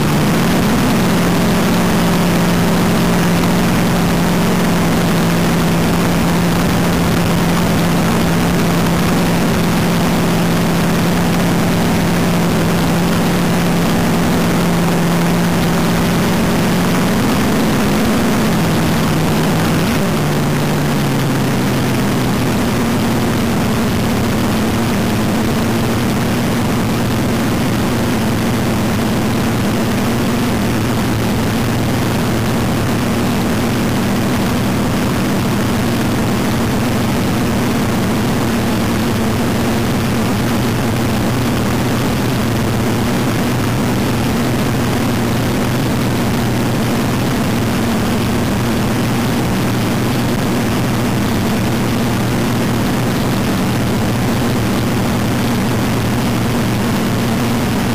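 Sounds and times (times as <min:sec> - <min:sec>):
dragster engine idling: 0:00.0 - 0:57.9.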